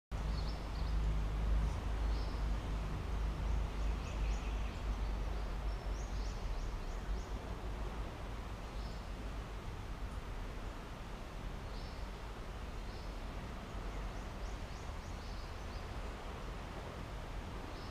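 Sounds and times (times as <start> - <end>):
small birds chirping: 0.2 - 7.6, 8.4 - 10.9, 11.6 - 17.9.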